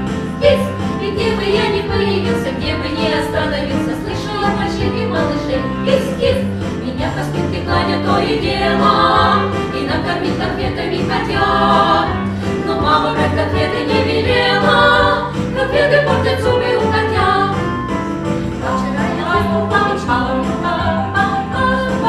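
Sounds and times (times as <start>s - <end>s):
instrumental accompaniment: 0.0s - 22.0s
women singing in harmony: 0.4s - 17.8s, 18.6s - 22.0s.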